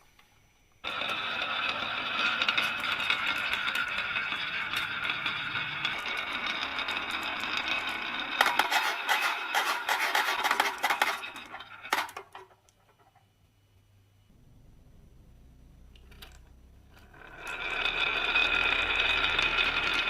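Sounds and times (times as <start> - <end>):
marbles clicking and clattering: 0.8 - 13.1, 16.0 - 20.0
marbles rolling on wooden track: 0.8 - 13.3, 15.9 - 20.0.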